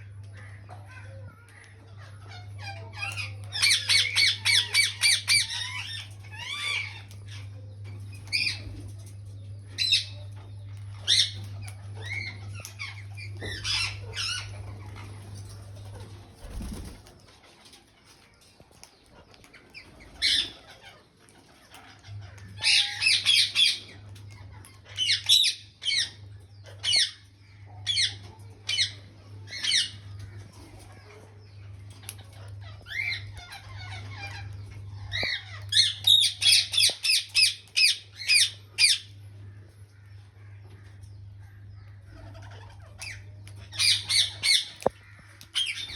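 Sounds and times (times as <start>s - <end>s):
parakeets calling: 0.0s - 17.3s, 18.9s - 45.9s
steady low hum: 0.0s - 45.9s.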